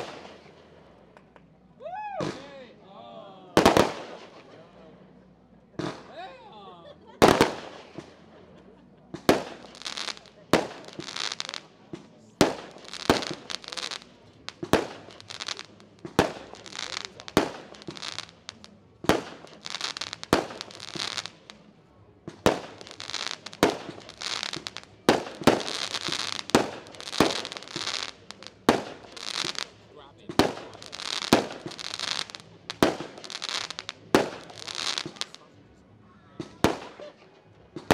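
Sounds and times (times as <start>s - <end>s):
firework bangs: 0.0s - 0.8s, 3.6s - 4.7s, 5.8s - 6.2s, 7.2s - 8.3s, 9.1s - 35.5s, 36.4s - 37.9s
firework crackling: 0.0s - 1.4s, 3.6s - 4.8s, 7.2s - 8.3s, 9.2s - 35.5s, 36.4s - 37.9s.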